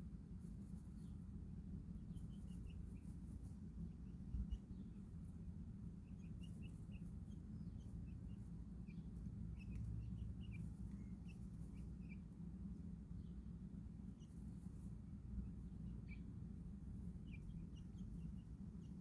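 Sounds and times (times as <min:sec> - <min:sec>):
baby chicks peeping: 0:00.0 - 0:19.0
low background rumble: 0:00.0 - 0:19.0.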